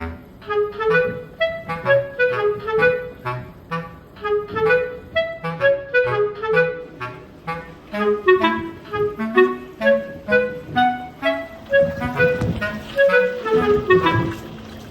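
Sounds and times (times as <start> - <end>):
light melodic background music: 0.0 - 14.9.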